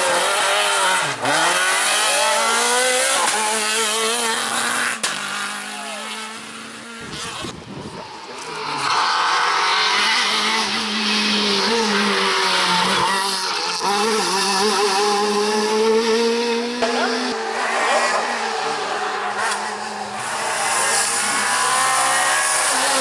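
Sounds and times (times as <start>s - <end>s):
rally car engine revving hard: 0.0s - 23.0s.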